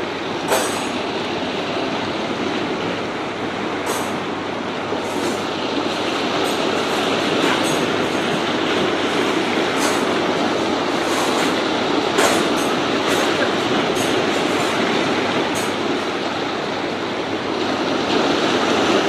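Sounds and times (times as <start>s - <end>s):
waves washing over rocky shore: 0.0s - 19.0s.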